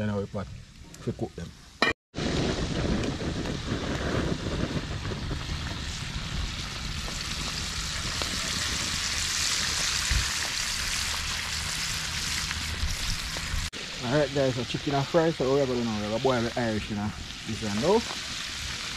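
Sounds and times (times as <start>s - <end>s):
oil sizzling and crackling: 0.6s - 18.9s.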